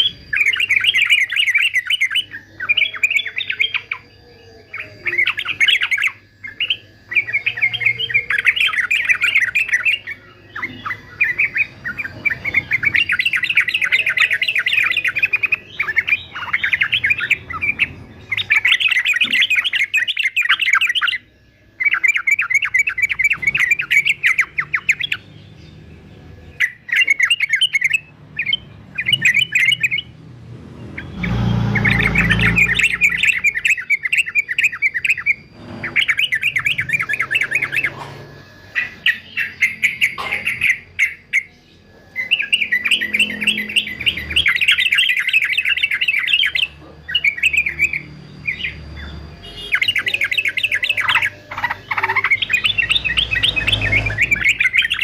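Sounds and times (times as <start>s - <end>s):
bird singing in chattering bursts: 0.0s - 55.0s.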